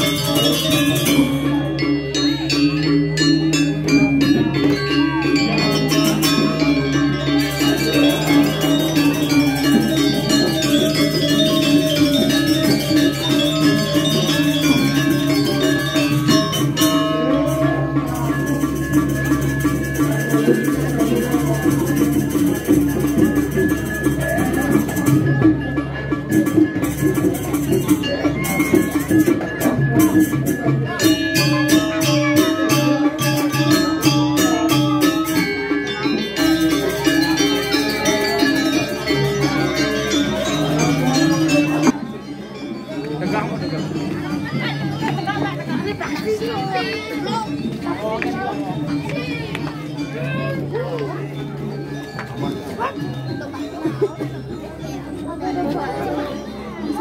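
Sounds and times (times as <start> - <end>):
gamelan playing: 0.0 - 57.0
ringing metallophone tones: 0.0 - 57.0.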